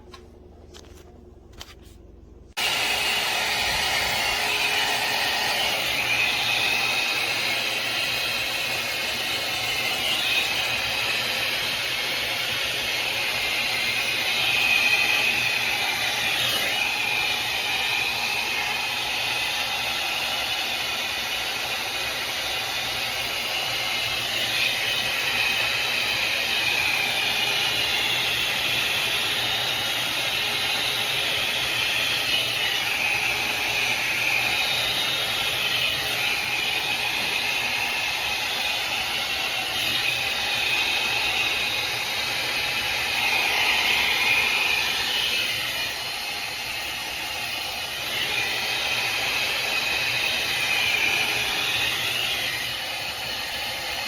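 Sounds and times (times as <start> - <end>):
hair dryer brush blowing air: 2.5 - 54.0.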